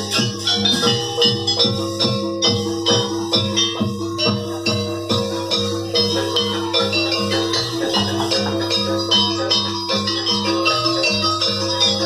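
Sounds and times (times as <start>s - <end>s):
pitched percussion ensemble music: 0.0s - 12.0s.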